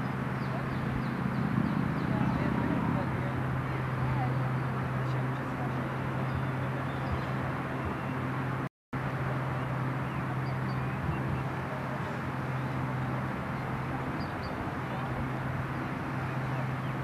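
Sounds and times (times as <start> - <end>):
constant low hum: 0.0 - 17.0.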